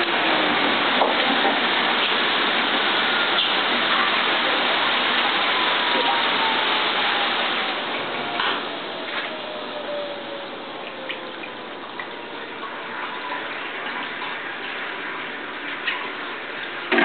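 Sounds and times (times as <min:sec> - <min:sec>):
rushing water-like machine noise: 0:00.0 - 0:17.0.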